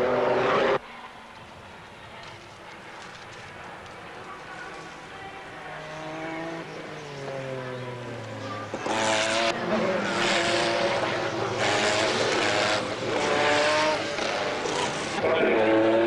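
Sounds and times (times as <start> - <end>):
race cars passing at speed: 0.0 - 1.2, 3.6 - 16.0
distant race cars droning: 0.0 - 16.0.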